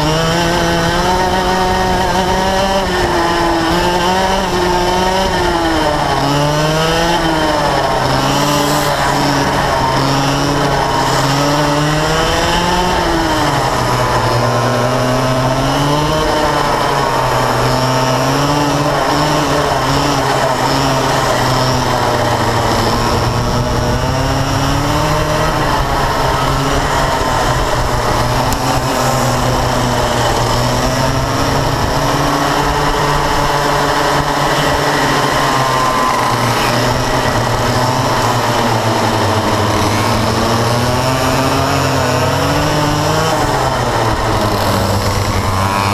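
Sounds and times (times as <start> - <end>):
kart engine at racing speed: 0.0 - 45.9
other kart engines nearby: 0.0 - 45.9.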